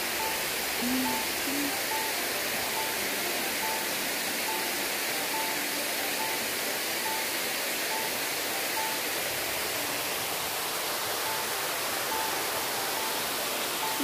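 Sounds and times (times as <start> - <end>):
water rushing down a spillway: 0.0 - 14.0.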